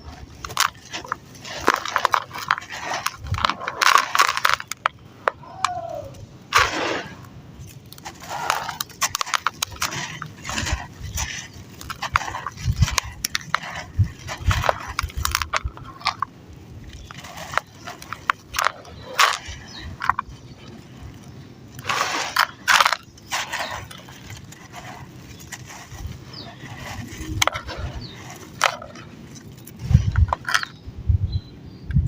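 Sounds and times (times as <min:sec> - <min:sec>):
chunks crumbling in water: 0:00.0 - 0:05.4, 0:06.5 - 0:30.7.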